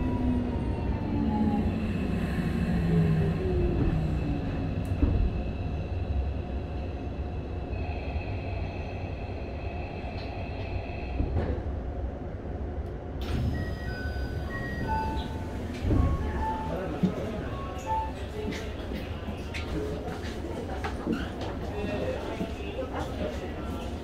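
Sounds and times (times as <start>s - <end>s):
train wheels and motors rumbling: 0.0s - 24.0s.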